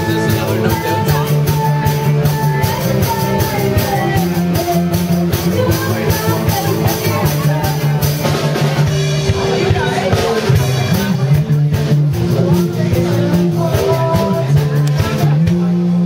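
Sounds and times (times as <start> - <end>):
person singing: 0.0 - 15.8
rock music: 0.0 - 16.0.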